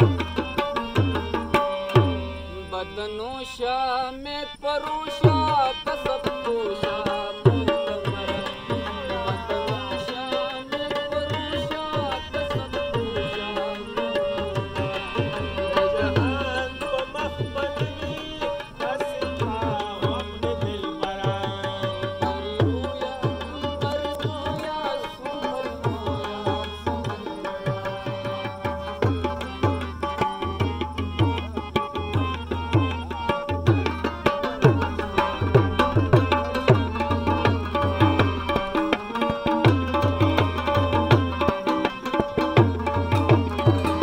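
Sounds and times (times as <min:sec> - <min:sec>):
harmonium: 0:00.0 - 0:44.0
rubab: 0:00.0 - 0:44.0
tabla beat: 0:00.0 - 0:44.0.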